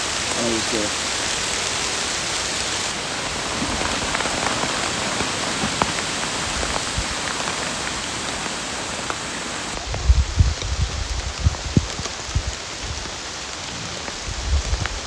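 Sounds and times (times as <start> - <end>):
heavy rain falling: 0.0 - 15.0
raindrops ticking close by: 0.0 - 15.0.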